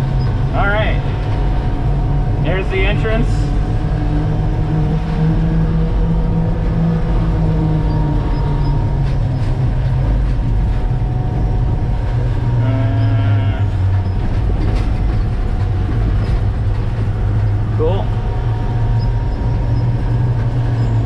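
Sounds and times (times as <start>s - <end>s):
road noise: 0.0s - 21.0s
truck diesel engine droning: 0.0s - 21.0s.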